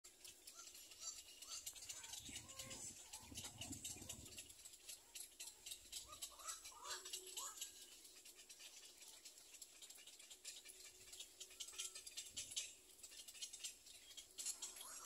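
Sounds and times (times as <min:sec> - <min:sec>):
crackling and rustling in nest: 0:00.0 - 0:15.0
bird chicks chirping: 0:00.1 - 0:15.0.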